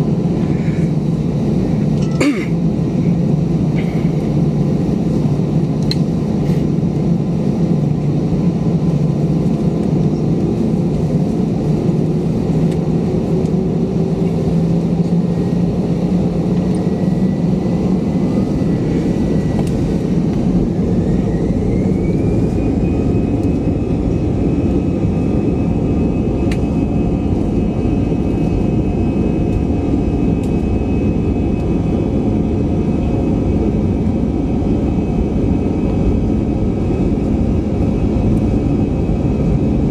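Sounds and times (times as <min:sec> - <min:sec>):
jet engines spooling up: 0:00.0 - 0:39.9.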